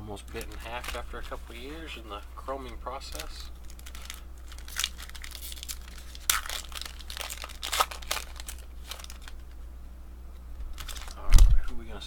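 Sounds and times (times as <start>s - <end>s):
foil wrapper crinkling and tearing: 0.2s - 9.6s, 10.7s - 11.6s.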